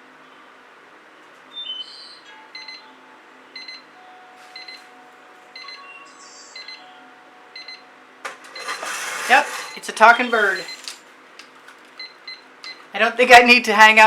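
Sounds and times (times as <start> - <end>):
faint hum: 0.0 - 13.8.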